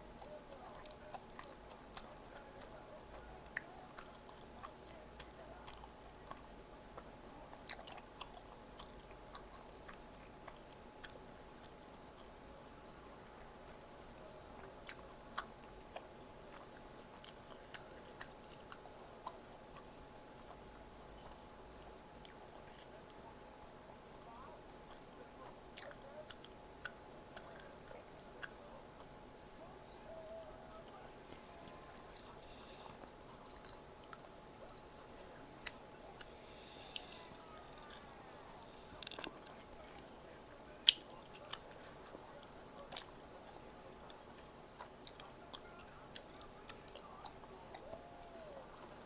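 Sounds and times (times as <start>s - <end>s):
person chewing food: 0.0s - 12.4s, 14.6s - 21.5s, 22.2s - 48.6s.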